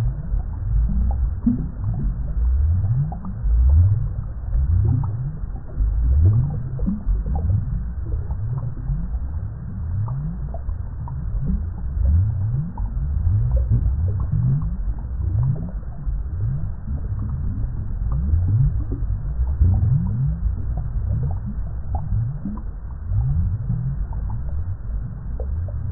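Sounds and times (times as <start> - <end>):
water bubbling: 0.0 - 25.9.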